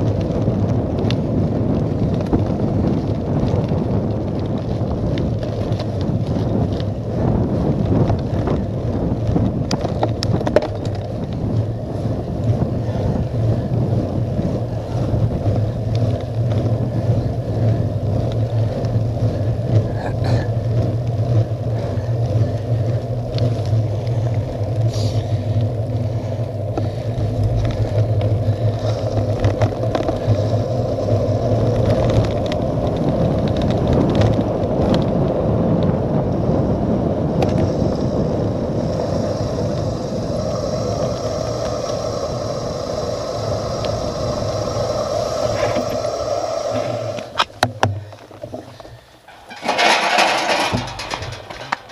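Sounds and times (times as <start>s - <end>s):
bicycle tyres rolling on wet tarmac: 0.0s - 51.9s
wind rushing over microphone: 0.0s - 51.9s.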